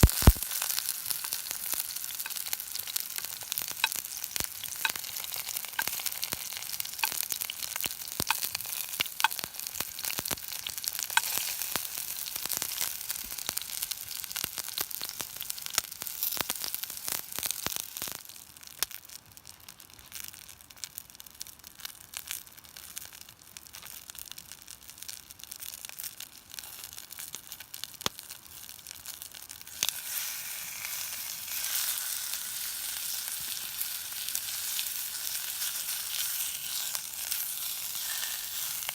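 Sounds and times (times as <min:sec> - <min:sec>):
campfire sizzling and crackling: 0:00.0 - 0:38.9.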